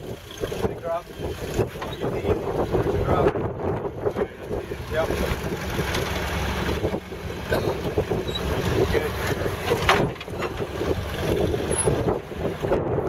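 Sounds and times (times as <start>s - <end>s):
truck engine running unevenly: 0.0s - 13.0s
wind buffeting microphone: 0.0s - 13.0s.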